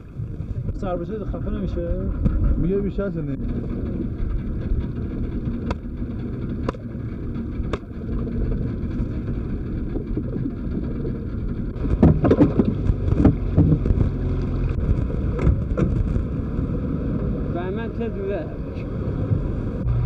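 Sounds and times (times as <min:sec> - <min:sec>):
boat engine running: 0:00.0 - 0:20.0
knocks and clatter: 0:00.4 - 0:17.3.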